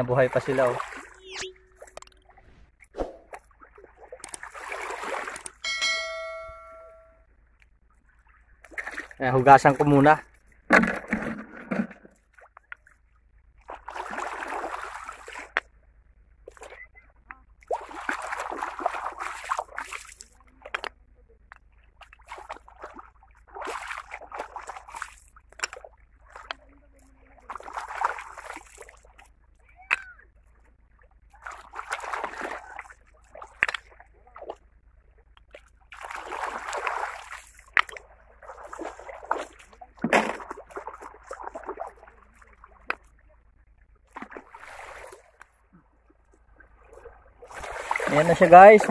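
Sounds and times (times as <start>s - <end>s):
seawater splashing and sloshing: 0.0s - 6.6s, 7.9s - 15.7s, 17.6s - 21.1s, 21.7s - 48.9s.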